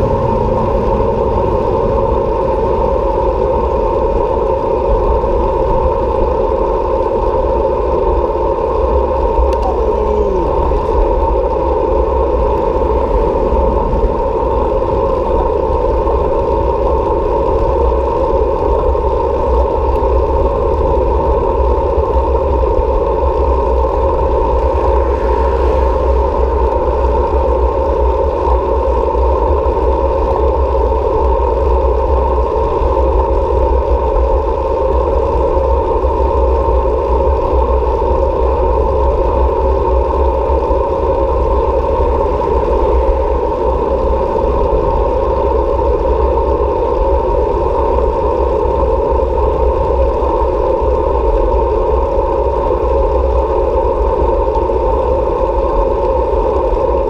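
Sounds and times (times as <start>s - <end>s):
road noise: 0.0s - 57.0s
wind rush: 0.0s - 57.0s.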